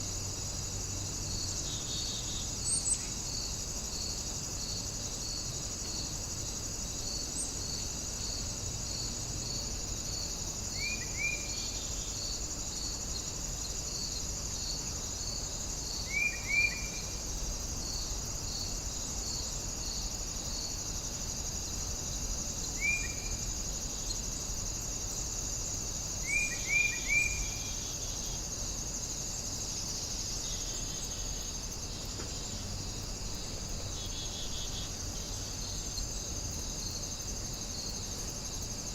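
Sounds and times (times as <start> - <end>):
cricket chirping: 0.0 - 38.9
insects trilling: 0.0 - 38.9.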